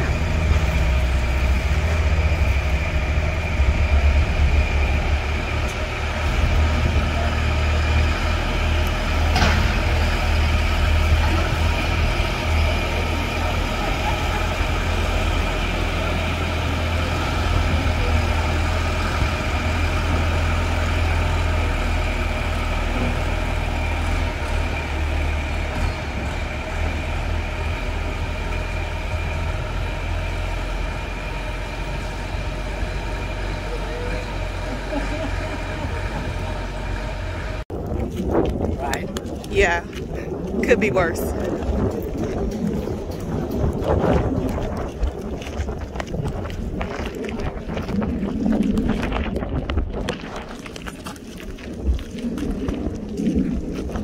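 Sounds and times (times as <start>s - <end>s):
engine droning with faint whine: 0.0s - 54.0s.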